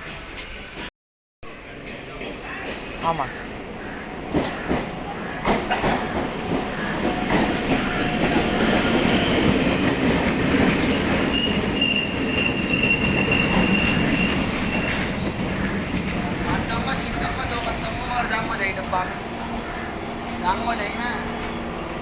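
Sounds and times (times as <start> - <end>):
high steady train squeal: 0.0 - 22.0
electric train pulling in: 1.5 - 22.0.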